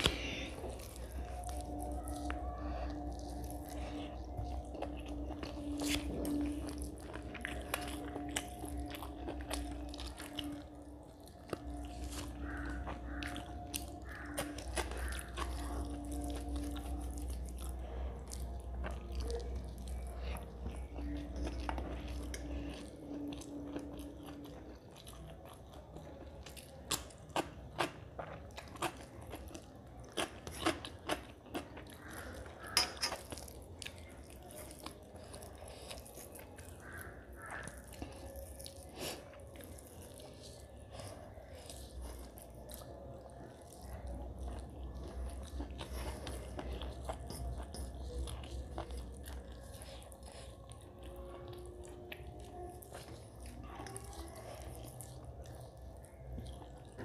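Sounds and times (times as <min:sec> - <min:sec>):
low steady hum: 0:00.0 - 0:57.0
person chewing with wet mouth sounds: 0:00.0 - 0:57.0.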